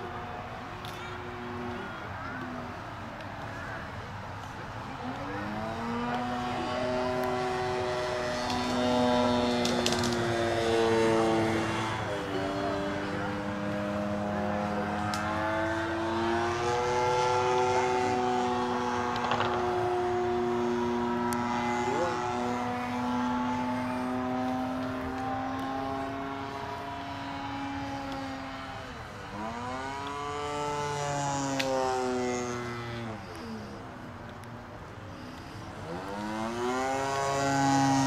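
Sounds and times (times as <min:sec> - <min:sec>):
model airplane engine droning: 0:00.0 - 0:38.0.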